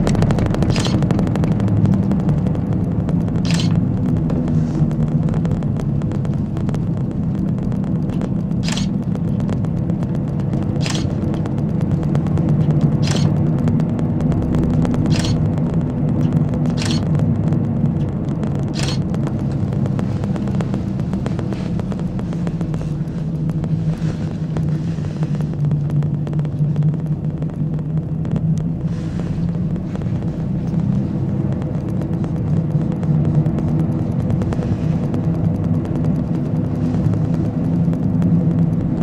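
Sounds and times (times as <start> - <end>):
gondola cabin rumble: 0.0 - 39.0.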